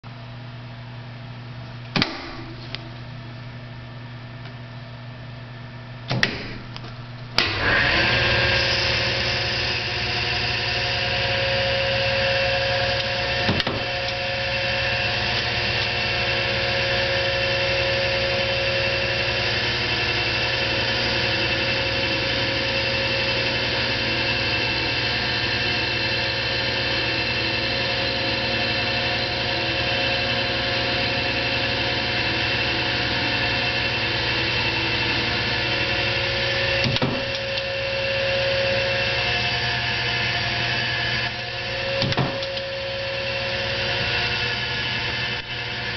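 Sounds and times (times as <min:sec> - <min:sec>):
whining machining tones: 0:06.4 - 0:45.9
lathe motor hum: 0:06.6 - 0:45.9.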